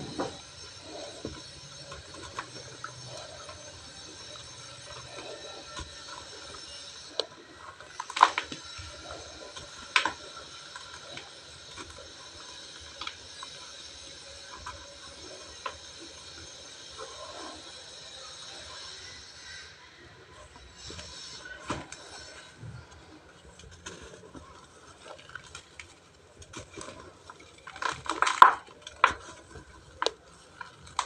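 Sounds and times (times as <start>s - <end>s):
cement lumps crunching: 0.0s - 17.8s, 20.2s - 31.0s.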